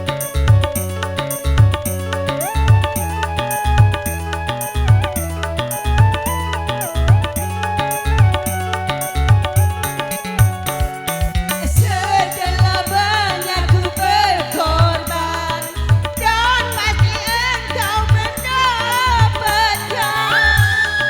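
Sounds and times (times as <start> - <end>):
bass: 0.0 - 21.0
hand drums beat: 0.0 - 21.0
ornamented lead melody with vibrato: 0.0 - 21.0.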